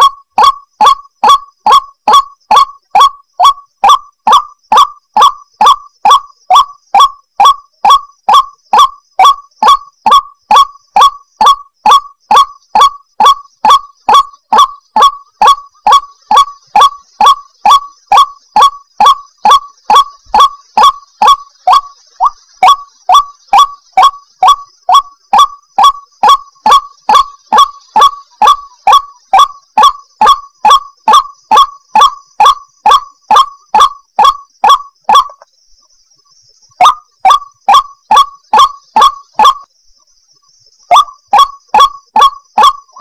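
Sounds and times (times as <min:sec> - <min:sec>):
waterhen calling sharp notes: 0:00.0 - 0:35.4, 0:36.8 - 0:39.7, 0:40.9 - 0:43.0.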